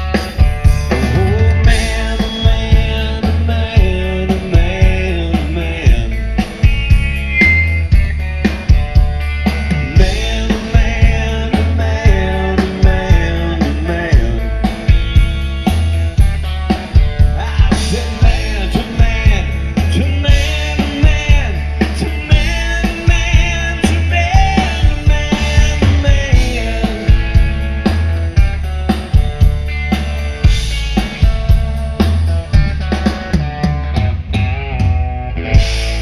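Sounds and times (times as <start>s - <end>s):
drum beat: 0.0s - 35.0s
bass guitar: 0.0s - 36.0s
electric guitar lead: 0.0s - 36.0s.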